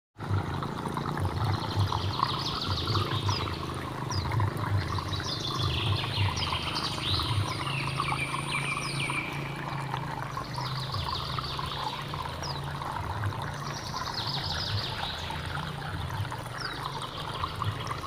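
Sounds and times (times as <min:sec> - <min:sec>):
running stream water: 0:00.2 - 0:18.0
birds chirping: 0:01.2 - 0:18.0.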